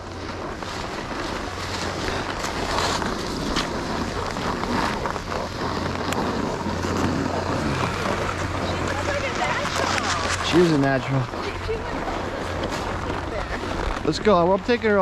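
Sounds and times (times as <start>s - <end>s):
snowboard sliding over snow: 0.0s - 15.0s
wind buffeting microphone: 0.0s - 15.0s.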